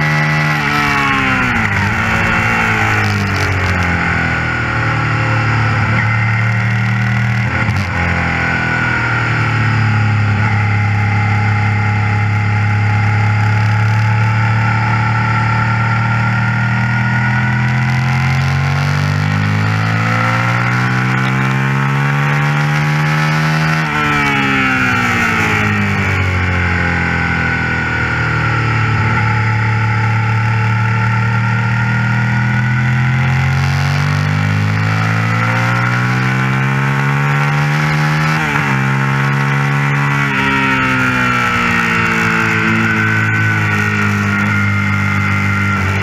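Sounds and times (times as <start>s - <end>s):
motorcycle engine racing: 0.0s - 46.0s.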